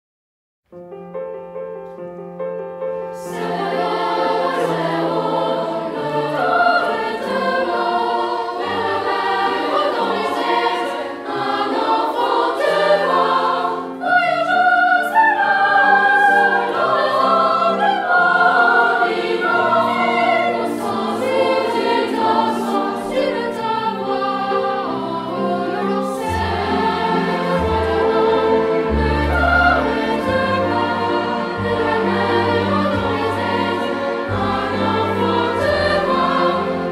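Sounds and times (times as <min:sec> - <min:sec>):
instrumental accompaniment: 0:00.7 - 0:36.9
choir singing: 0:03.0 - 0:36.9.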